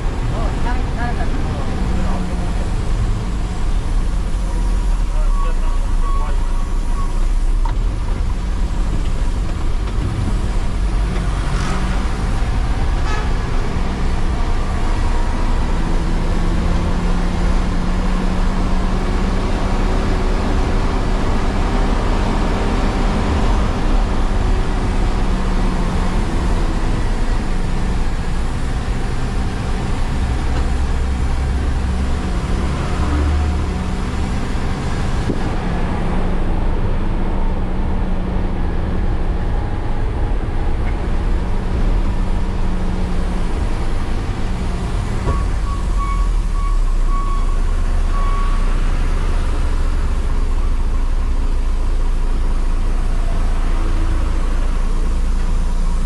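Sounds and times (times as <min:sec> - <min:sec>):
bus engine: 0:00.0 - 0:56.0
road noise on dirt road: 0:00.0 - 0:56.0.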